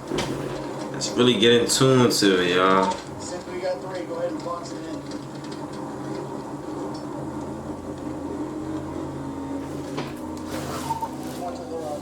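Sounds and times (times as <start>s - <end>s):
car engine drone: 0.0s - 12.0s
road noise: 0.0s - 12.0s.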